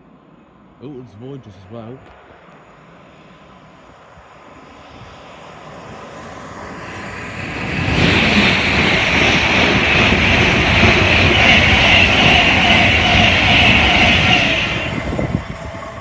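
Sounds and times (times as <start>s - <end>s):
electric train rushing past: 0.0s - 16.0s.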